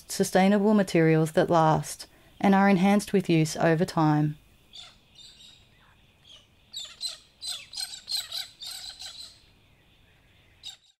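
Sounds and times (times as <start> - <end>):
birds chirping: 0.4 - 11.0.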